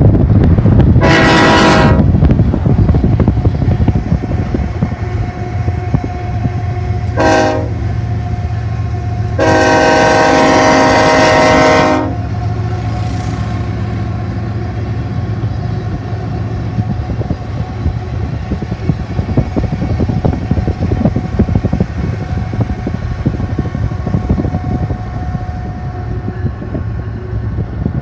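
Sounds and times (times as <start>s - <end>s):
car road and engine noise: 0.0s - 28.0s
diesel locomotive hum: 0.0s - 28.0s.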